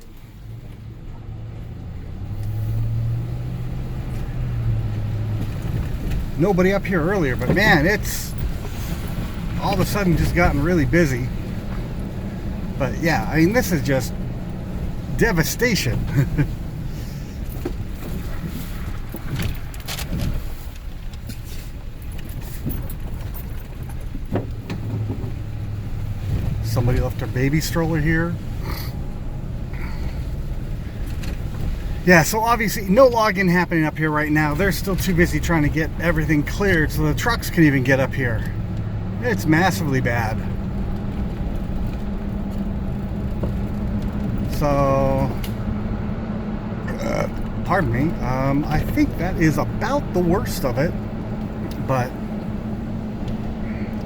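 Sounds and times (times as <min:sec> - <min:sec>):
tyre and road rumble: 0:00.0 - 0:54.0
vehicle engine droning: 0:00.0 - 0:54.0.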